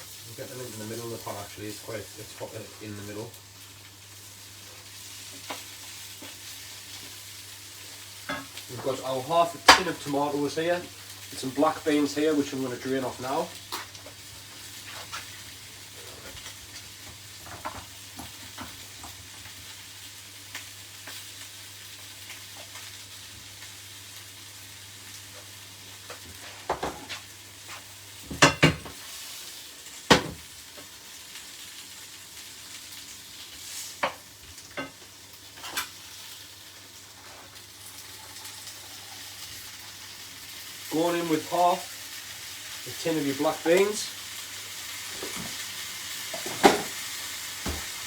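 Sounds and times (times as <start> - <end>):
chicken wings sizzling in a pot: 0.0 - 48.0.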